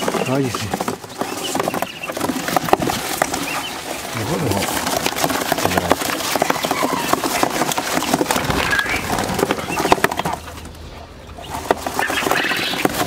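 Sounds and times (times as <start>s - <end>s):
cardboard box rustling and scraping: 0.0s - 10.7s.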